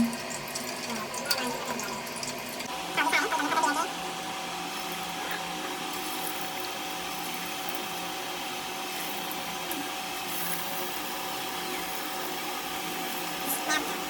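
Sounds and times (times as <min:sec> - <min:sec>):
small motor whirring hum: 0:00.0 - 0:14.0.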